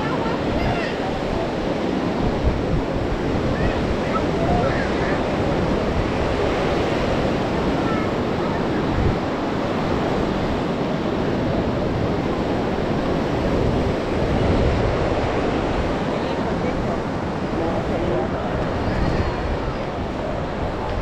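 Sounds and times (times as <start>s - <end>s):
sea surf washing onto beach: 0.0s - 21.0s
wind buffeting microphone: 0.0s - 21.0s.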